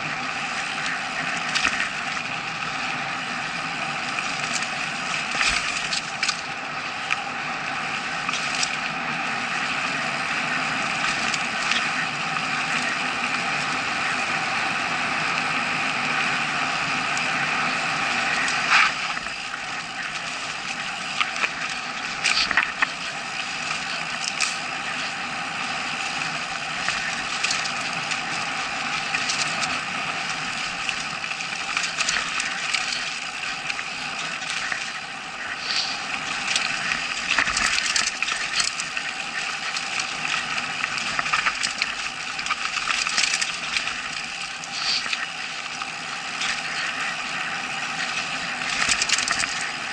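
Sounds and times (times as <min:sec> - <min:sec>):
bike tyres on dirt trail: 0:00.0 - 0:49.9.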